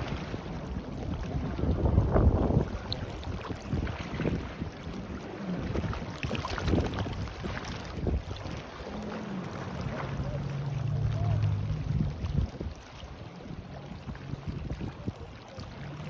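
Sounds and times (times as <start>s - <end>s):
faint motorboat engine hum: 0.0s - 16.0s
waves washing on shore: 0.0s - 16.0s
wind buffeting microphone: 0.0s - 16.0s.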